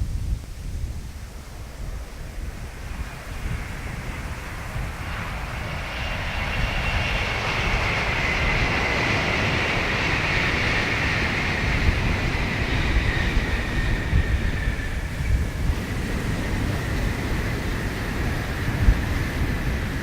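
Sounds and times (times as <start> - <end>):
wind buffeting microphone: 0.0 - 20.0
high-speed train passing: 0.9 - 20.0.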